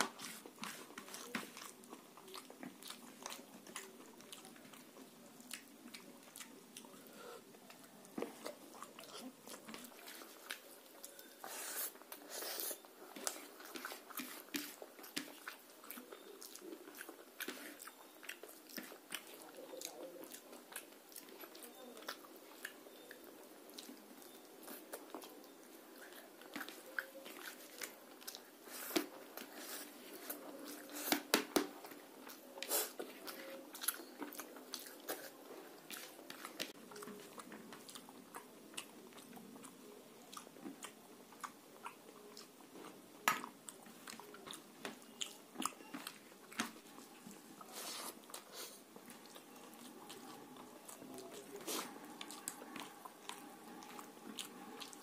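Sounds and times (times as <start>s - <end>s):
wet chewing: 0.0s - 55.0s.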